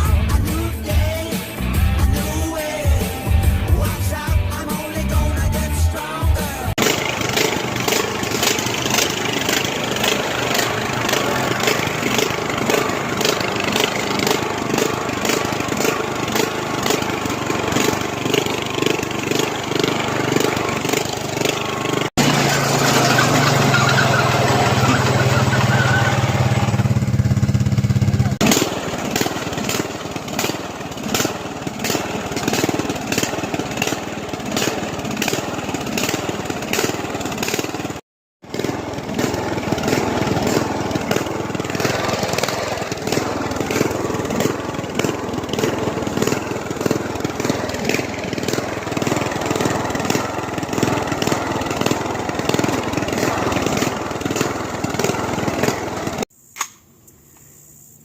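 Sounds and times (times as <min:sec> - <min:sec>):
lawn mower engine running: 0:00.0 - 0:56.3.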